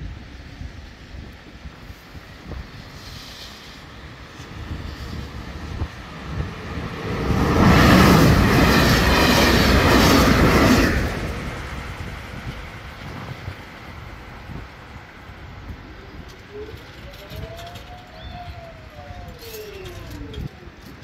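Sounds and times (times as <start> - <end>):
passenger train passing: 0.0 - 21.0.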